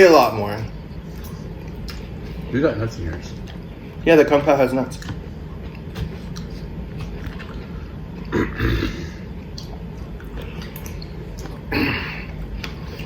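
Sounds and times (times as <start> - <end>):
steady low hum: 0.0 - 13.0
people chewing food: 0.6 - 13.0.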